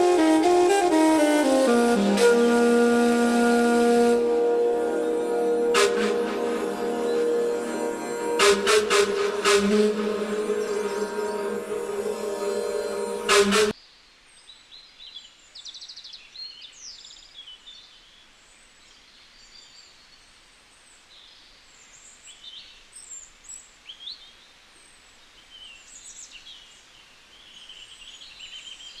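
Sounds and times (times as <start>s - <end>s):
faint steady hiss: 0.0s - 29.0s.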